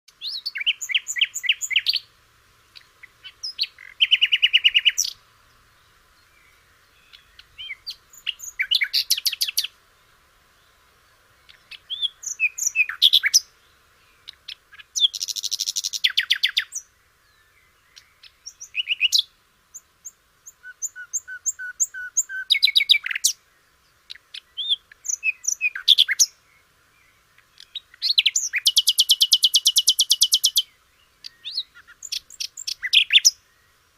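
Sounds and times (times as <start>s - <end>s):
nightingale singing: 0.1s - 33.9s.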